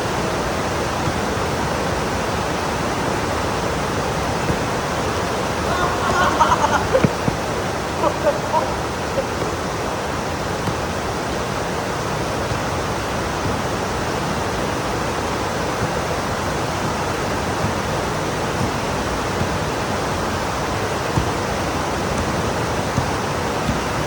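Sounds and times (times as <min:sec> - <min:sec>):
heavy rain pouring: 0:00.0 - 0:24.0
sharp rain taps: 0:00.1 - 0:24.0.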